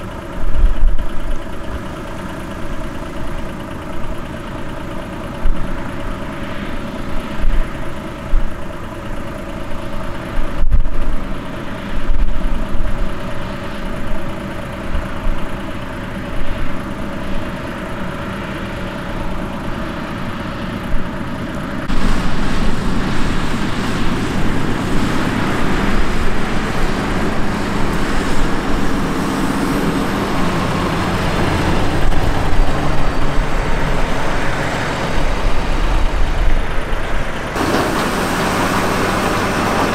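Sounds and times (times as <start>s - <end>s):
motor vehicle running: 0.0s - 39.9s.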